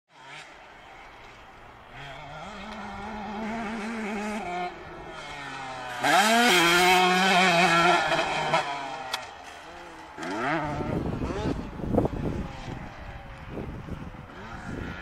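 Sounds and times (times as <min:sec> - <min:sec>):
motocross bike engines revving: 0:00.1 - 0:15.0.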